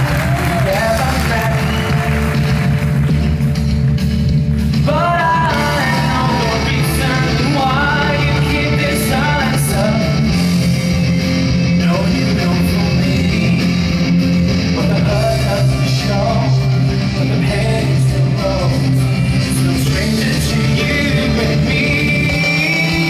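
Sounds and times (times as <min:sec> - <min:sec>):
rock song with singing and guitar: 0:00.0 - 0:23.0.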